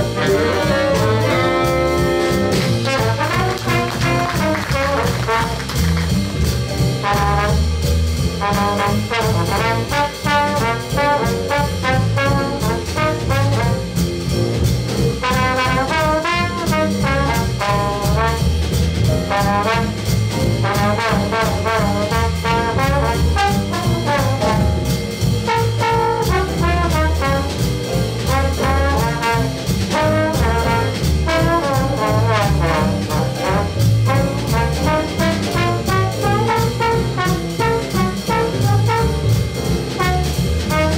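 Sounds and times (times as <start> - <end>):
trombone solo: 0.0 - 5.8, 6.9 - 14.0, 15.2 - 40.9
big band playing swing: 0.0 - 40.9
upright bass: 0.0 - 40.9.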